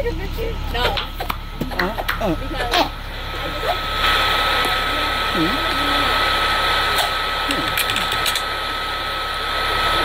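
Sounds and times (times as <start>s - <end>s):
high whine: 0.0s - 10.0s.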